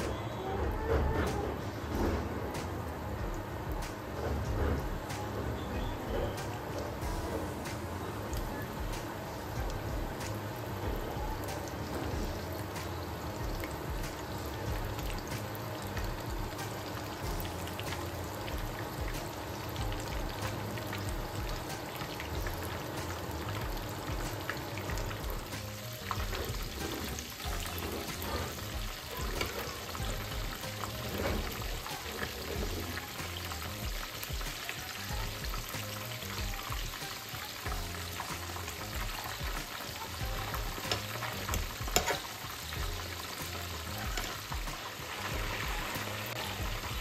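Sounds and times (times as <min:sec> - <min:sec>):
background music: 0:00.0 - 0:47.0
chicken deep-frying in oil: 0:00.0 - 0:47.0.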